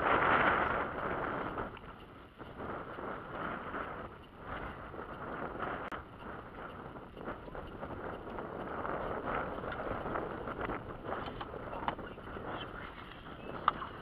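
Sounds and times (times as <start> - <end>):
wind: 0.0 - 14.0
waves lapping against boat hull: 1.4 - 14.0.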